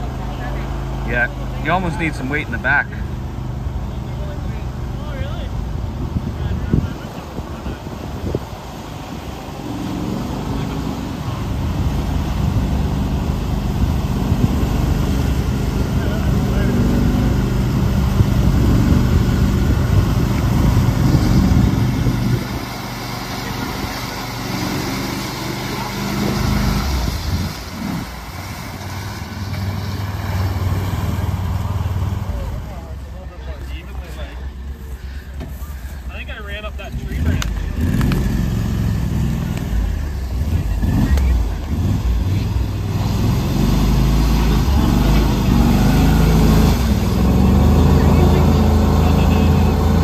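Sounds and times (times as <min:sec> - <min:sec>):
vehicle engine running: 0:00.0 - 0:50.0
wheels churning water: 0:00.0 - 0:50.0.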